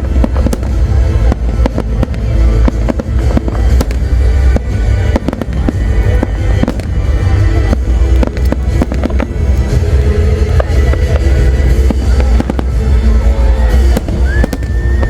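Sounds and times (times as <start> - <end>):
deep rumble of fireworks launches: 0.0 - 15.0
fireworks bangs and crackles: 0.0 - 15.0
music playing: 0.0 - 15.0.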